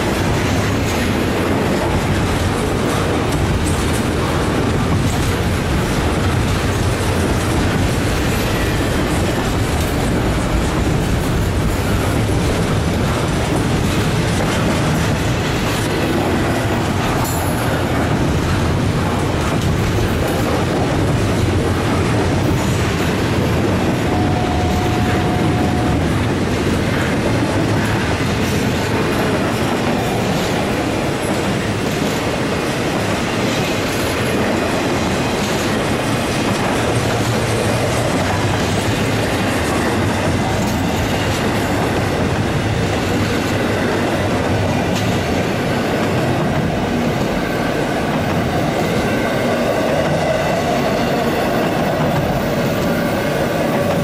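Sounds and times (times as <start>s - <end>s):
freight train wheels rumbling: 0.0s - 54.0s
wheels clicking over rail joints: 0.0s - 54.0s.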